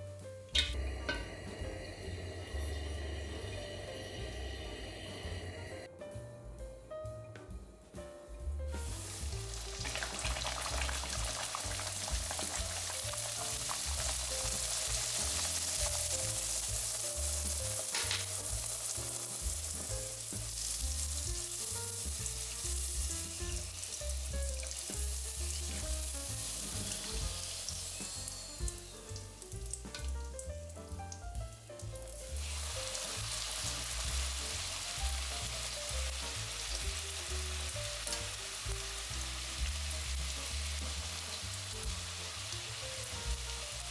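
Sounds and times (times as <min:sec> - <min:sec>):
dough sizzling in hot oil: 0:00.0 - 0:05.9, 0:08.7 - 0:43.9.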